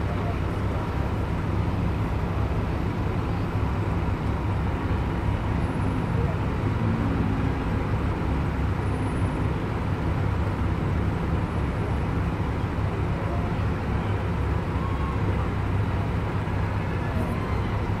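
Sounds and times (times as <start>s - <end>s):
cars idling in traffic: 0.0s - 18.0s.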